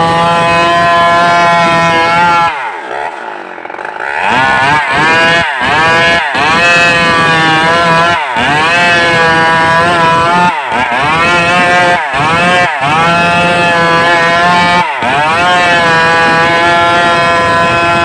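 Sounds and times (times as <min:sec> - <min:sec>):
chainsaw cutting timber: 0:00.0 - 0:18.0.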